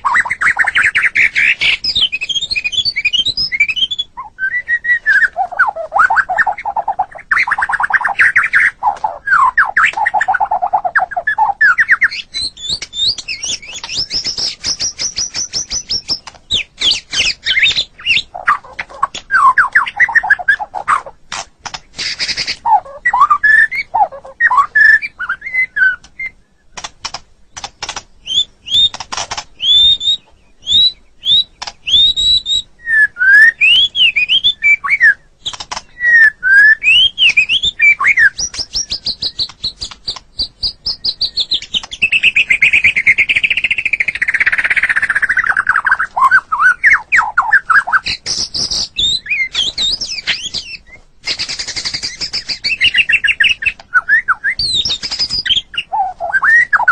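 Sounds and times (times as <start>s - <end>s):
descending bird trill: 0.0s - 21.2s, 22.0s - 26.8s, 27.6s - 56.9s
bird singing varied song: 0.0s - 56.9s.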